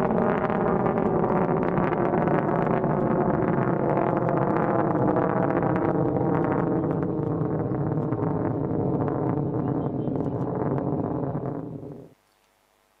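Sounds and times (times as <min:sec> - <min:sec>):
rocket motor rumble: 0:00.0 - 0:12.2.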